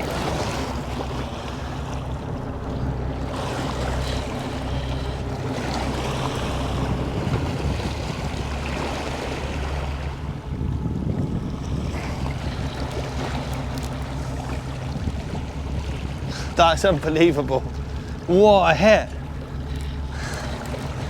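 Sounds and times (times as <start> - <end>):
boat engine running: 0.0 - 21.0
sea wash: 0.0 - 21.0
wind buffeting microphone: 0.0 - 21.0.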